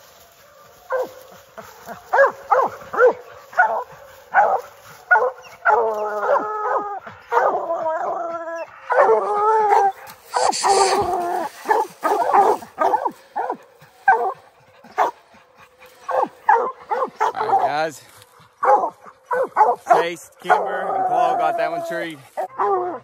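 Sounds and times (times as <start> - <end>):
hounds baying and barking: 0.0 - 23.0.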